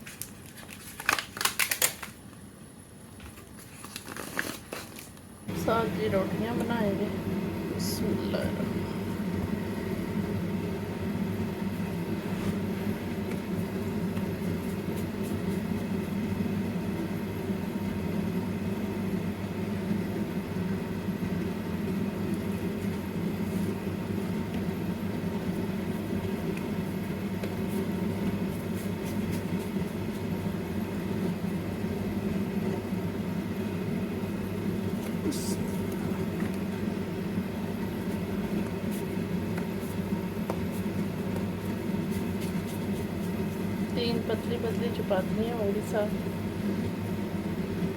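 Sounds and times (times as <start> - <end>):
steady low hum: 2.0 - 47.9.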